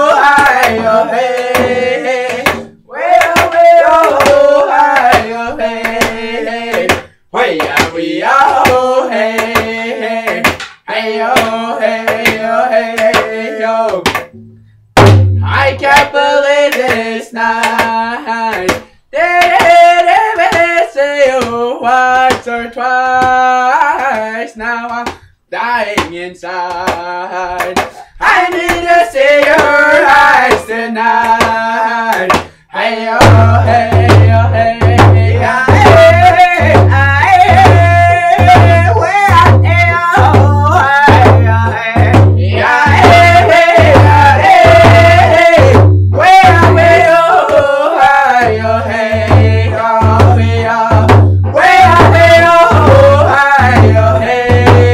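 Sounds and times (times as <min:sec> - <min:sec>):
men singing together: 0:00.0 - 0:14.3, 0:15.4 - 0:54.9
hand drum beat: 0:00.0 - 0:21.6, 0:26.7 - 0:54.9.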